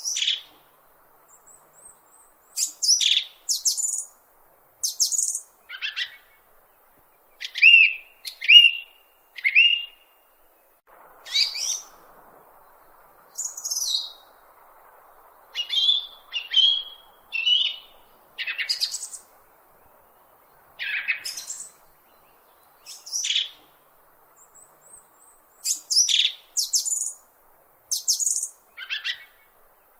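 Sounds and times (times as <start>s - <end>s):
bird chirping: 0.0s - 0.6s, 1.3s - 4.2s, 4.8s - 23.7s, 24.3s - 27.2s, 27.9s - 29.9s
faint hiss: 0.0s - 29.9s.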